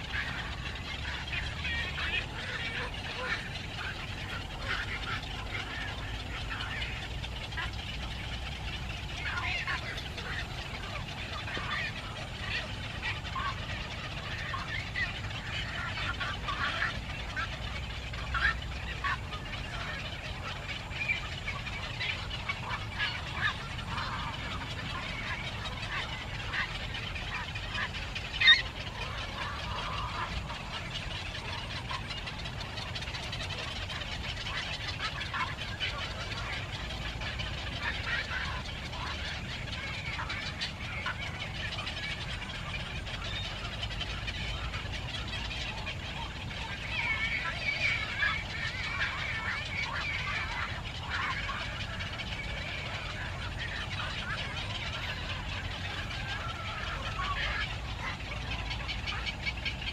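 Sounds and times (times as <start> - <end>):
birds calling: 0.0 - 59.9
low background rumble: 0.0 - 59.9.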